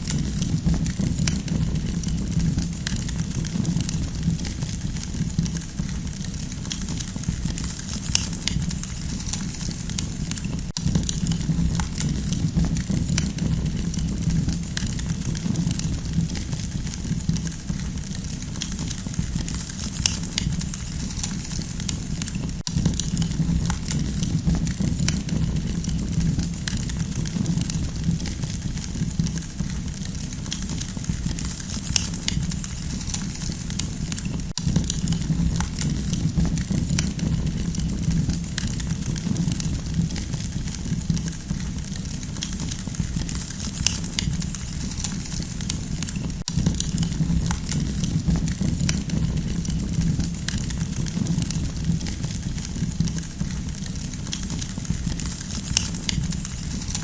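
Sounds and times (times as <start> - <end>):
campfire snaps and pops: 0.0 - 57.0
low rumble: 0.0 - 57.0.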